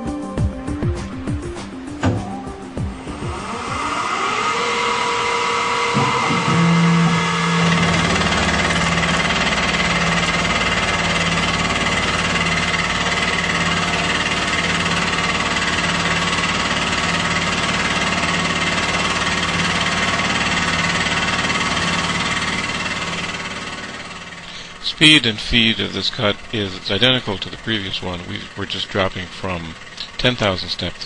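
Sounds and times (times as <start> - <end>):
mill fly-cutting aluminum: 1.7 - 31.0.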